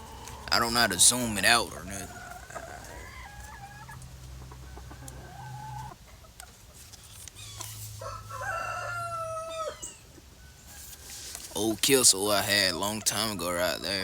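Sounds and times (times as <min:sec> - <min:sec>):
roosters crowing: 0:00.0 - 0:06.0, 0:07.4 - 0:14.0.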